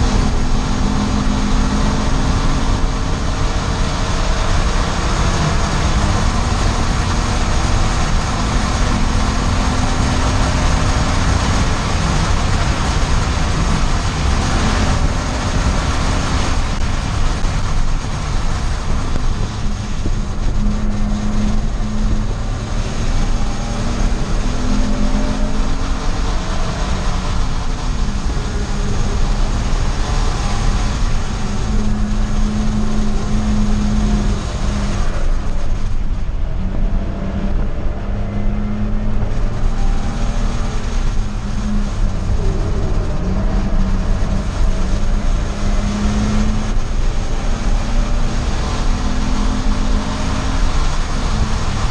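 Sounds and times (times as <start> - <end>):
race car engine running hard: 0.0 - 51.9
wind and road noise: 0.0 - 51.9.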